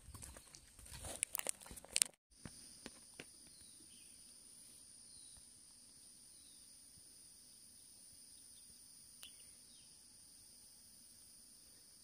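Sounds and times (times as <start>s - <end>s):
insects droning: 2.4s - 12.0s.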